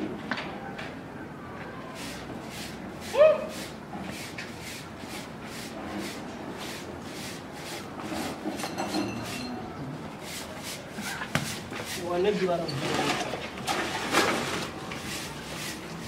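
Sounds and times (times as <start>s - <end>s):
broom sweeping concrete floor: 1.9s - 12.6s, 13.7s - 16.0s.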